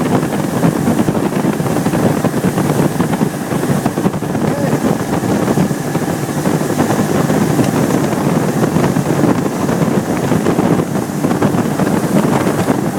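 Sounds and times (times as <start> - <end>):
motorboat running: 0.0 - 12.9
wind and water buffeting microphone: 0.0 - 12.9.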